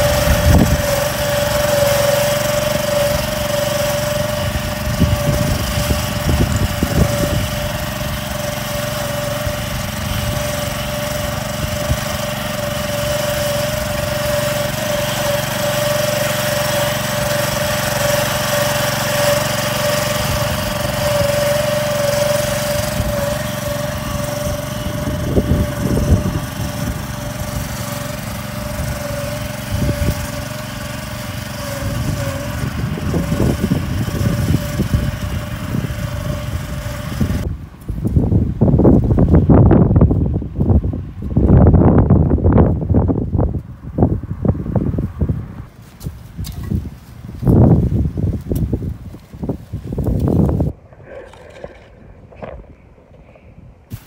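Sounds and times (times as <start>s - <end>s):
cultivator engine running: 0.0s - 43.4s, 45.7s - 54.0s.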